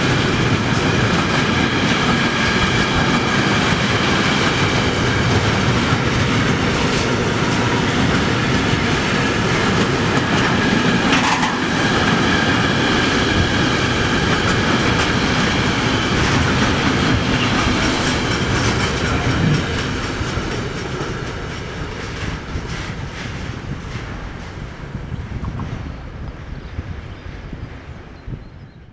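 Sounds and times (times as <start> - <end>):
freight wagons rumbling over rails: 0.0 - 28.0.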